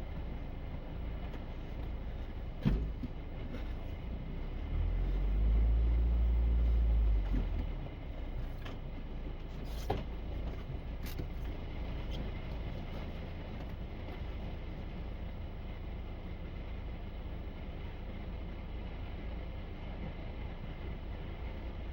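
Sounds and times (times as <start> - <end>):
truck engine rumbling: 0.0 - 21.9.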